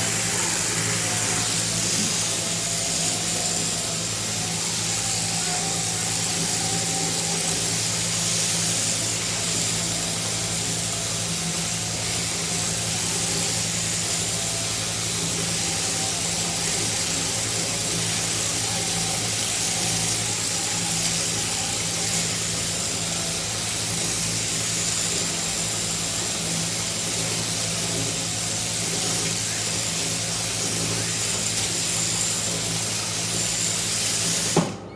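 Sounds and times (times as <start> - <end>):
electric shearing machine humming: 0.0 - 34.9.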